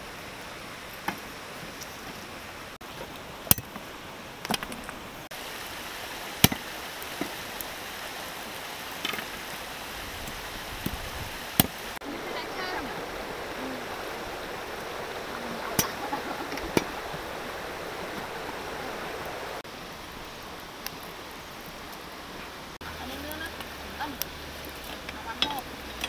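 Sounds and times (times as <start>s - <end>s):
shallow river rushing: 0.0s - 26.0s.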